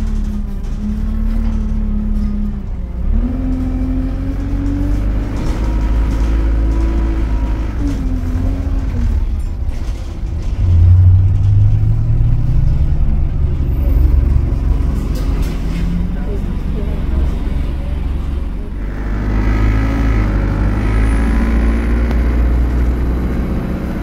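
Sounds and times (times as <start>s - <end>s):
bus engine accelerating: 0.0s - 24.0s.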